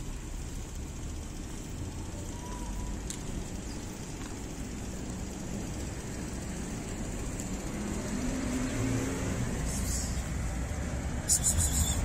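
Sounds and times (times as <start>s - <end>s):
low traffic rumble: 0.0s - 12.0s
vehicle engine running: 0.0s - 12.0s.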